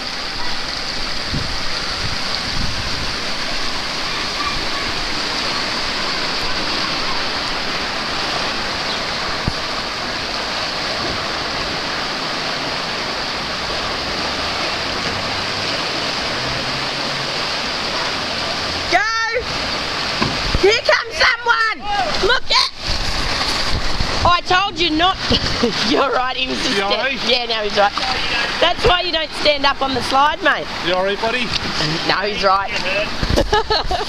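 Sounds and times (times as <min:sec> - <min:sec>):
water rushing down a waterslide: 0:00.0 - 0:34.0.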